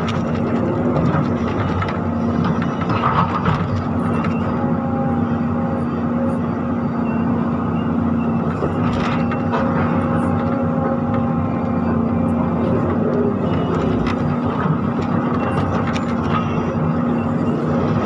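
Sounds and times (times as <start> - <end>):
constant hum: 0.0 - 18.0
excavator engine and hydraulics: 0.0 - 18.0.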